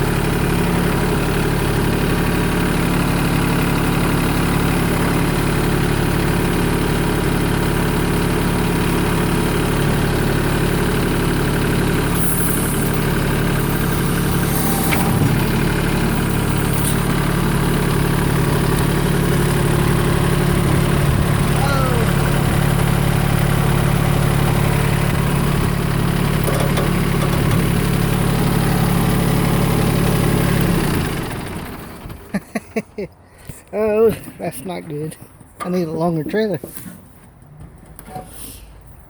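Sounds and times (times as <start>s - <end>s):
tractor diesel engine idling: 0.0s - 32.6s.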